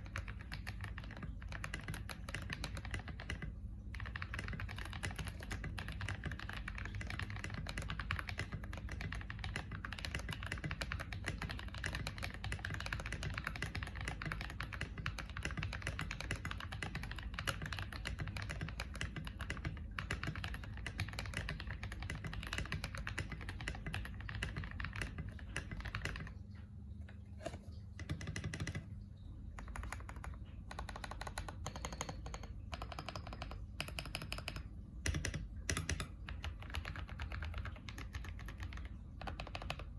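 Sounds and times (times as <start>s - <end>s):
mechanical keyboard typing: 0.0s - 26.5s, 27.4s - 39.9s.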